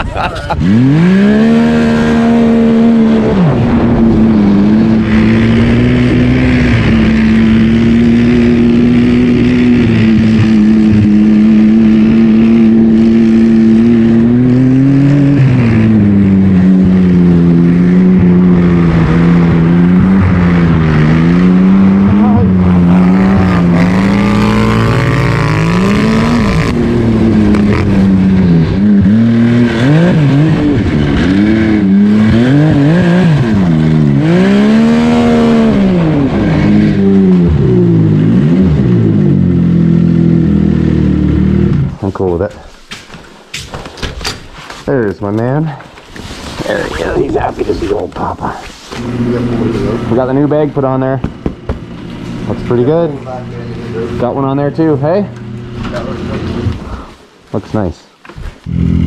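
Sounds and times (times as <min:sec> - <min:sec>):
snowmobile engine revving: 0:00.0 - 0:42.5, 0:46.3 - 0:58.0, 0:58.6 - 0:59.0.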